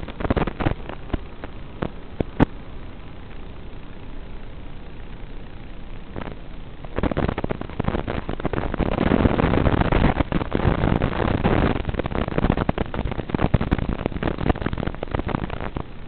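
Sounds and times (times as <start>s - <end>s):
drone motor and wind noise: 0.0s - 16.0s.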